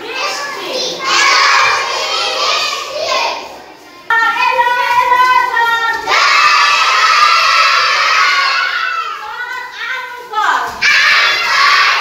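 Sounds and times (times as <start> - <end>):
children shouting: 0.0 - 10.0, 10.6 - 12.0.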